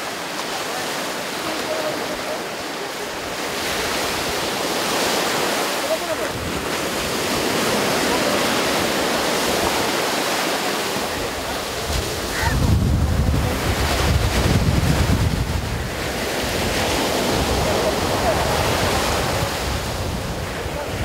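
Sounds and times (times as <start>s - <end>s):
sea waves breaking: 0.0s - 21.0s
wind buffeting microphone: 3.2s - 10.2s, 10.9s - 21.0s.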